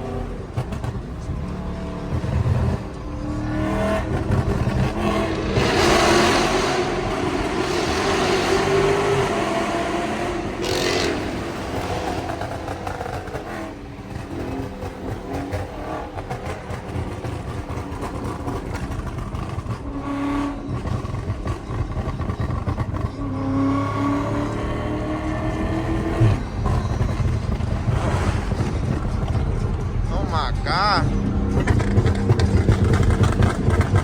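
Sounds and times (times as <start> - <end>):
car exhaust rumble: 0.0 - 34.0.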